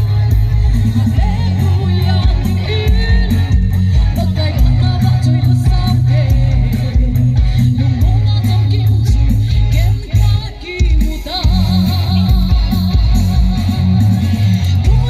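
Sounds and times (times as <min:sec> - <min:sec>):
heavy bass line: 0:00.0 - 0:15.0
steady drum beat: 0:00.0 - 0:15.0
woman singing gospel: 0:01.0 - 0:14.0.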